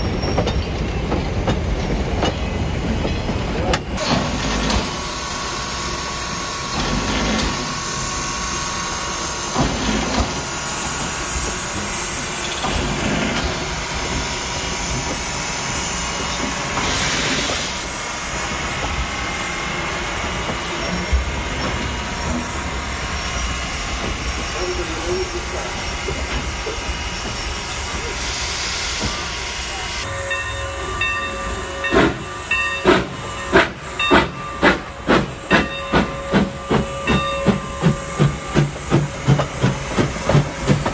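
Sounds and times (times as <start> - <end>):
steam locomotive hissing: 0.0 - 40.9.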